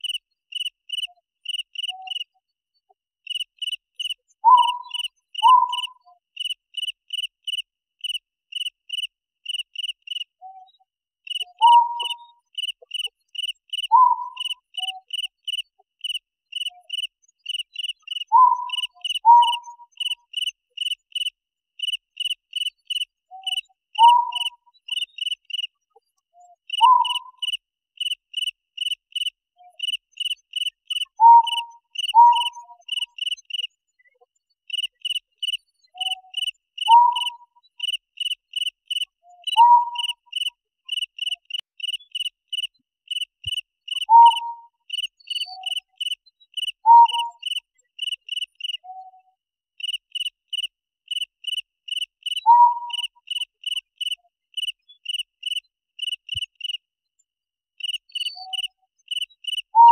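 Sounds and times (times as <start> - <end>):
crickets chirping: 3.3 - 10.2, 11.3 - 25.7, 26.8 - 33.7, 34.7 - 48.8, 49.8 - 56.8.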